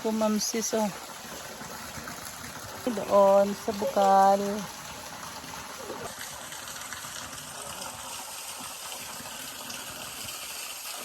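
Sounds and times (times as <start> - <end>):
spring water running: 0.0 - 11.0.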